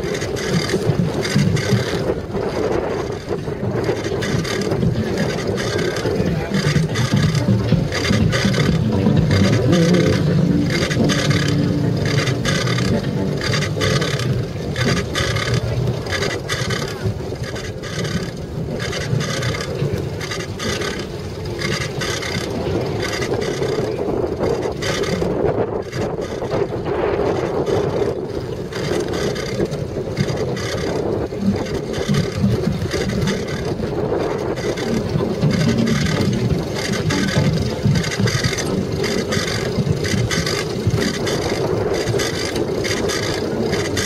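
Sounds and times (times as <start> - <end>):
bicycle tyres rumbling on dirt: 0.0 - 44.0
bike and mount rattling: 0.0 - 44.0.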